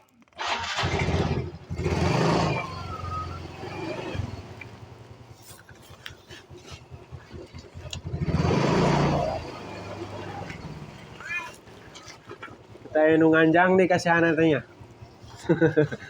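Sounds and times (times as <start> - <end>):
motorcycle engine running: 0.4 - 16.0.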